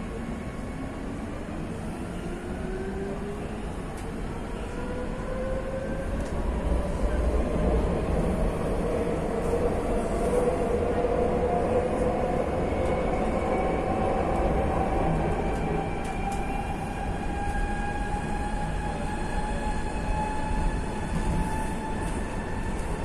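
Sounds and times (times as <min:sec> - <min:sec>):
train car rumble with electric whine: 0:00.0 - 0:23.0.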